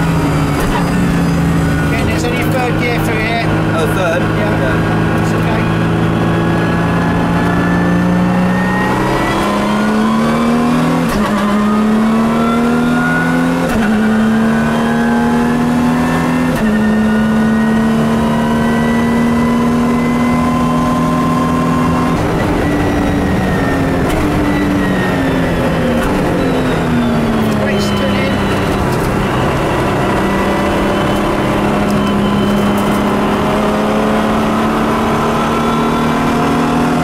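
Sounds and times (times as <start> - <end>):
race car engine revving through gears: 0.0 - 37.0.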